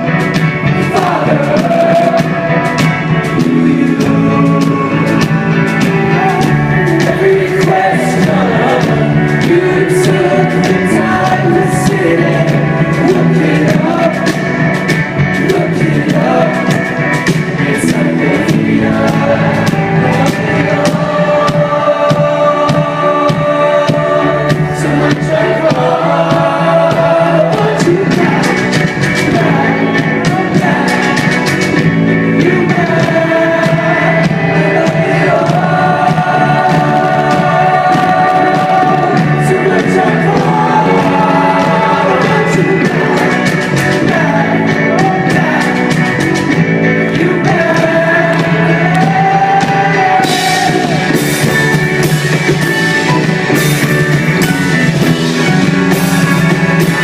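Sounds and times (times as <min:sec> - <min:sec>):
indie rock band playing live: 0:00.0 - 0:57.0
person singing: 0:00.0 - 0:57.0.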